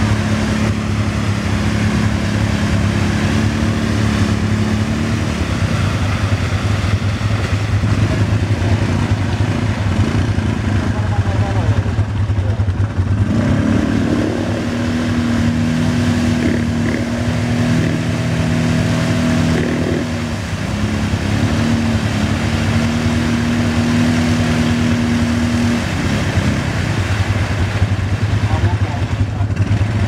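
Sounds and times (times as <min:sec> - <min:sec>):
mud and water splashing: 0:00.0 - 0:30.0
quad bike engine revving: 0:00.0 - 0:30.0.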